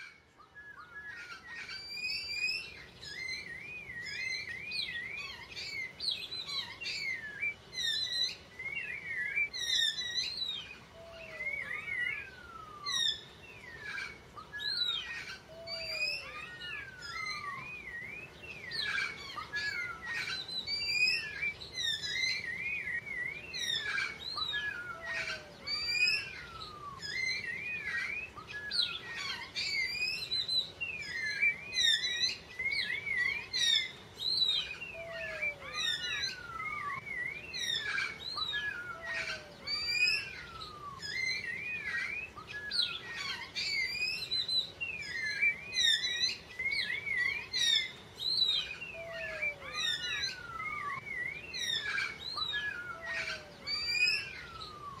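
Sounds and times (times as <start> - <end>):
birds chirping and whistling: 0.0 - 55.0
low falling bird call: 0.0 - 55.0.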